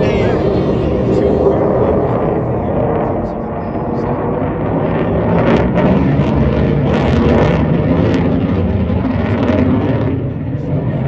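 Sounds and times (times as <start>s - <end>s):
jet engine rumbling with crackling: 0.0s - 11.0s.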